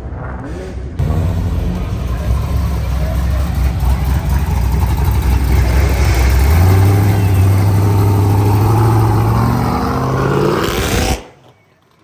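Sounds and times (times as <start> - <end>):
car engine revving: 0.3 - 11.4.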